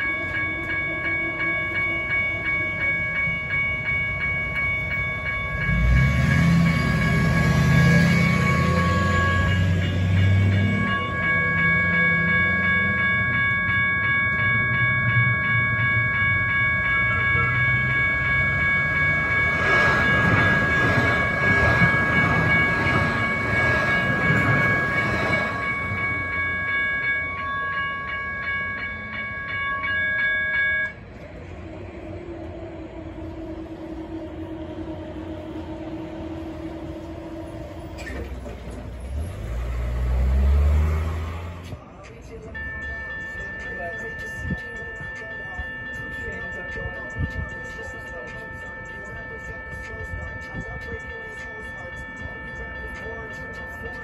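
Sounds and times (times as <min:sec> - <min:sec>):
level-crossing bells ringing: 0:00.0 - 0:54.0
light-rail train passing: 0:00.0 - 0:54.0.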